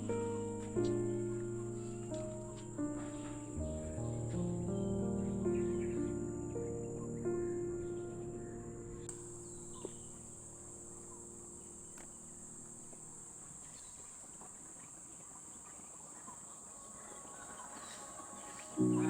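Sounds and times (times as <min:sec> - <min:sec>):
background music: 0:00.0 - 0:13.3, 0:16.8 - 0:19.0
faint bird calls: 0:00.0 - 0:19.0
forest insects droning: 0:00.0 - 0:19.0.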